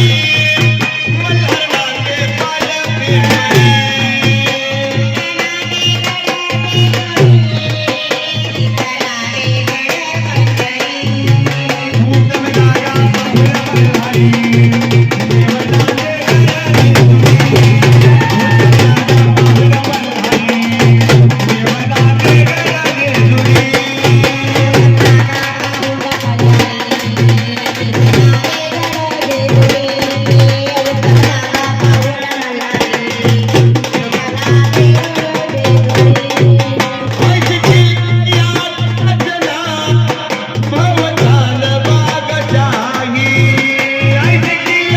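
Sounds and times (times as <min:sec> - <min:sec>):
hand drum beating: 0:00.0 - 0:44.9.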